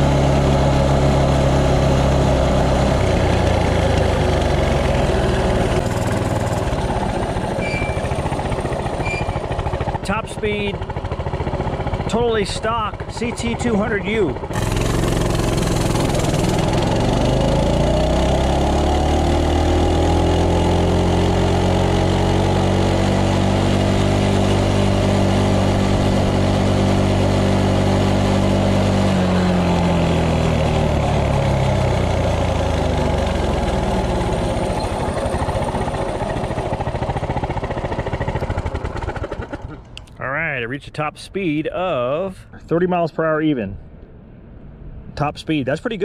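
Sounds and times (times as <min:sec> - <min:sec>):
minibike engine revving: 0:00.0 - 0:40.0.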